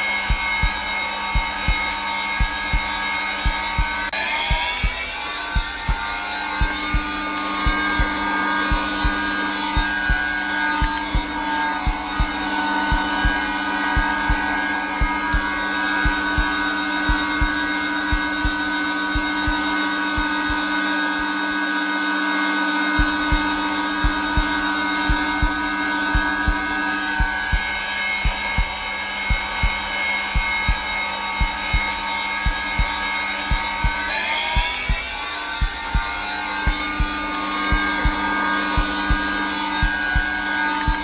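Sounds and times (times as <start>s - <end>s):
heartbeat thumping: 0.0s - 21.3s, 22.8s - 41.0s
vacuum cleaner whining hum: 0.0s - 41.0s.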